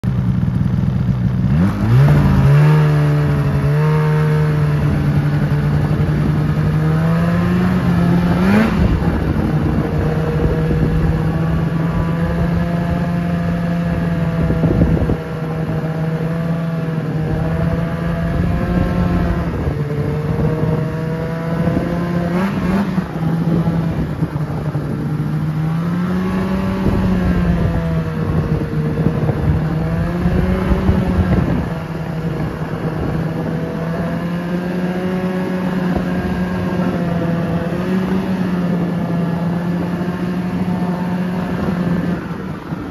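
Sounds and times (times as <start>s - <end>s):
snowmobile engine revving: 0.1s - 42.9s.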